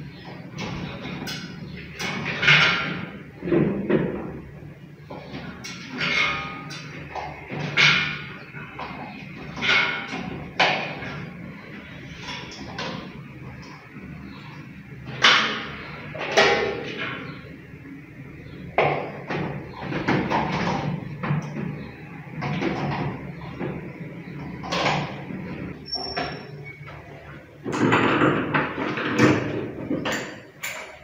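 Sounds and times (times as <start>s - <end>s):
folding metal chair clatter: 0.0s - 18.0s, 18.7s - 31.0s.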